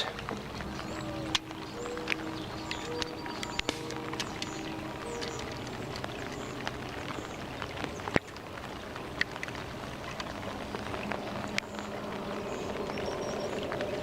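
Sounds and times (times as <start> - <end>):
drop-like ticks: 0.0 - 14.0
rain falling: 0.0 - 14.0.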